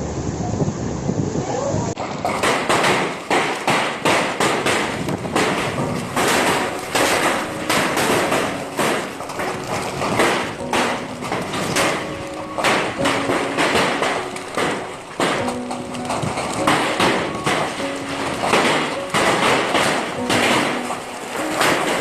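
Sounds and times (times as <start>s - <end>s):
hailstones pelting hard surface: 2.0s - 22.0s.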